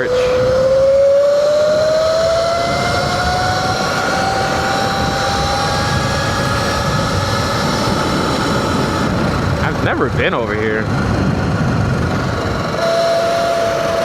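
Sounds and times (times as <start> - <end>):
electric motor whining: 0.0 - 14.0
road rumble: 0.0 - 14.0
wind: 0.0 - 14.0.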